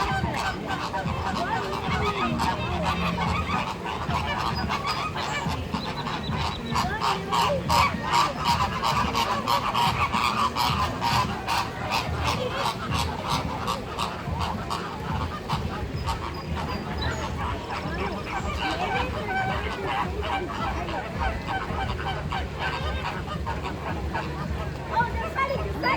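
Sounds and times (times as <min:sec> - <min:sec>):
flamingos honking: 0:00.0 - 0:25.9.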